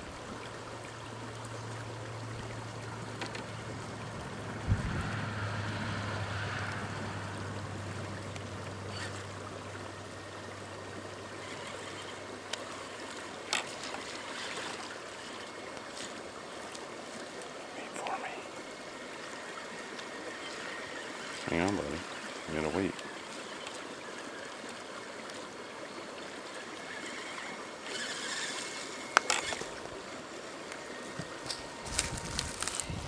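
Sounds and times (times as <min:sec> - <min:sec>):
water running over rocks: 0:00.0 - 0:33.0.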